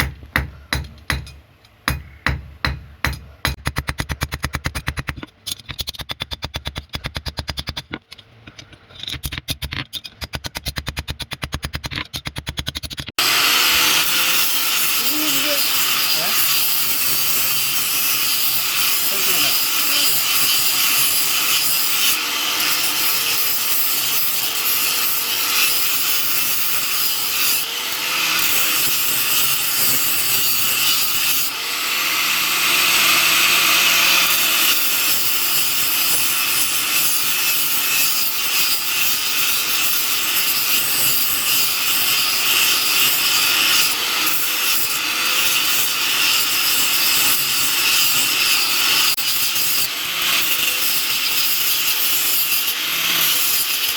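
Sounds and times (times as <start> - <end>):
steel grinding: 0.4 - 53.9.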